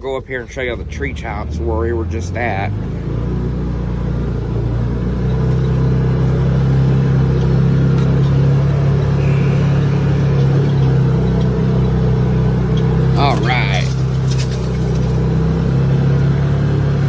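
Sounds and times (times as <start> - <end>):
engine pulling under load: 0.0 - 17.0.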